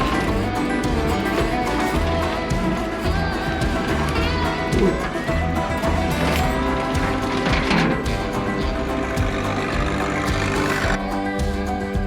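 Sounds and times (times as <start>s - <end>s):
guitar: 0.0s - 12.0s
steady bass line: 0.0s - 12.0s.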